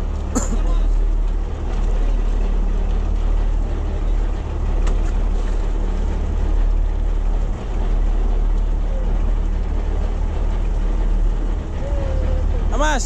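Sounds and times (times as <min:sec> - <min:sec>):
boat engine humming: 0:00.0 - 0:13.0
sea noise: 0:00.0 - 0:13.0
wind: 0:00.0 - 0:13.0.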